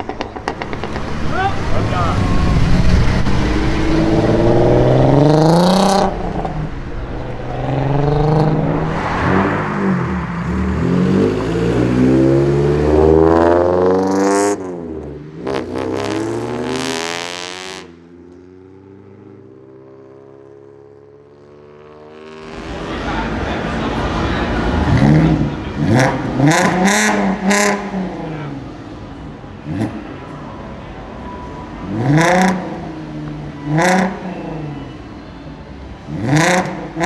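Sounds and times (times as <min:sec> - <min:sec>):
car engine revving and accelerating: 0:00.4 - 0:29.0, 0:31.8 - 0:34.8, 0:36.0 - 0:37.0.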